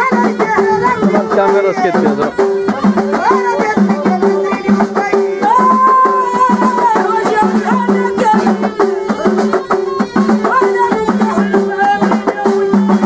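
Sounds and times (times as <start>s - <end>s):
hand drums: 0.0s - 13.0s
rattling percussion: 0.0s - 13.0s
woman singing folk song: 0.0s - 13.0s.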